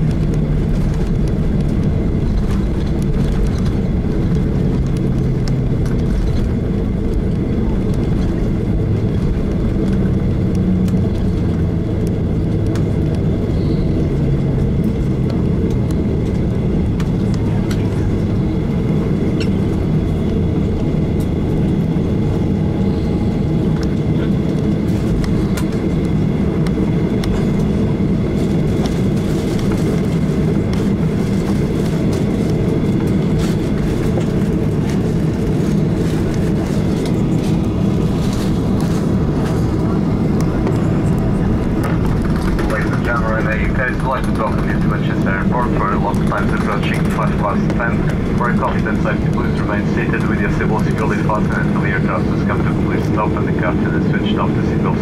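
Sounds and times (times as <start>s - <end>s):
aircraft engines and wheels rumbling: 0.0s - 55.0s.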